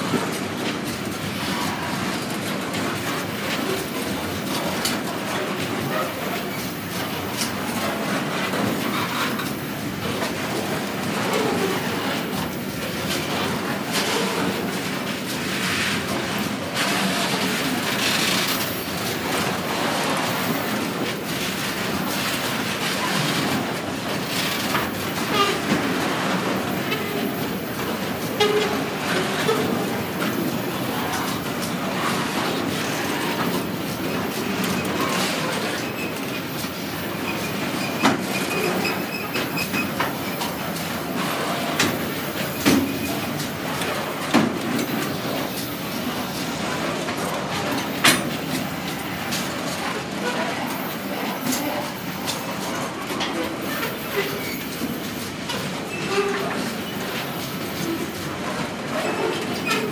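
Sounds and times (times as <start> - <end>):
wheels clacking on rail joints: 0.0 - 59.9.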